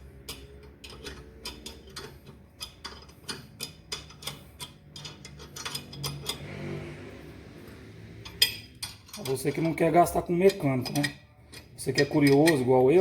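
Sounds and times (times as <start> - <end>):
wrench clicking: 0.0 - 6.5, 8.2 - 13.0.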